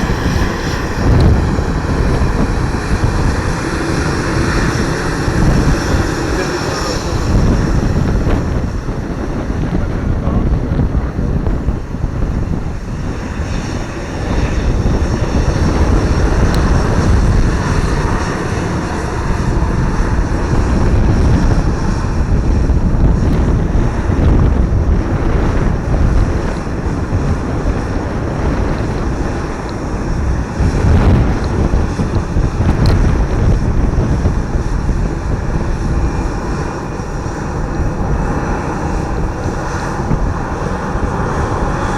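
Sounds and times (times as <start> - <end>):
airplane engines rumbling: 0.0 - 41.9
wind buffeting microphone: 0.0 - 41.9.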